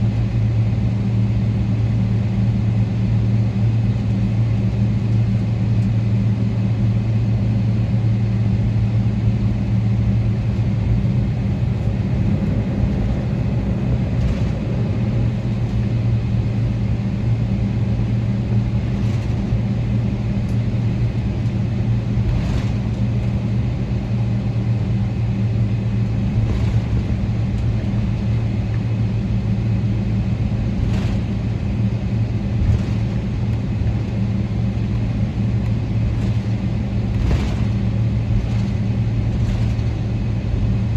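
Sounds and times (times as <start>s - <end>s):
aircraft cabin hum: 0.0s - 40.9s.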